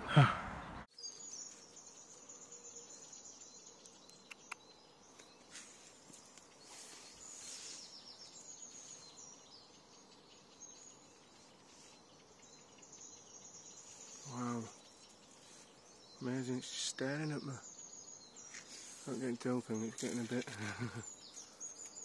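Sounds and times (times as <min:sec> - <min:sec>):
faint high-pitched chirping: 0:00.2 - 0:22.0.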